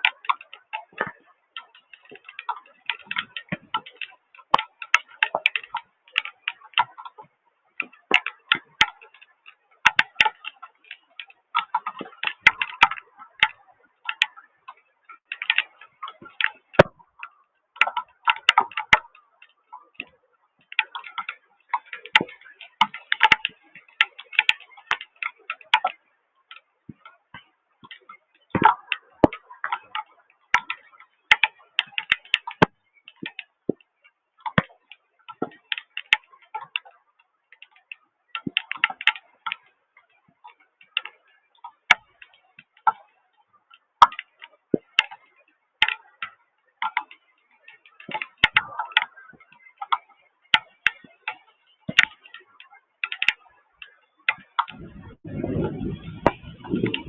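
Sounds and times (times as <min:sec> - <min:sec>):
raindrops tapping on hard surface: 0:00.0 - 0:43.1, 0:45.8 - 0:53.4, 0:54.3 - 0:57.0.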